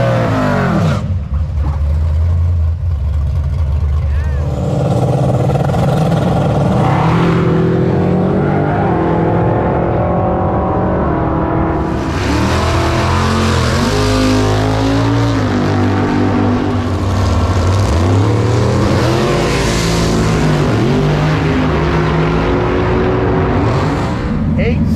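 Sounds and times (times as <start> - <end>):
car engines revving: 0.0 - 24.9.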